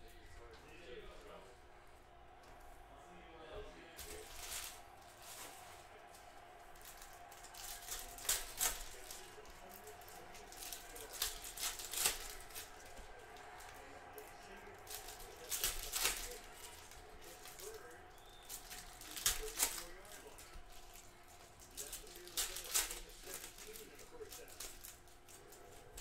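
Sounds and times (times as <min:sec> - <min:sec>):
foil wrappers crinkling and tearing: 0:04.0 - 0:26.0.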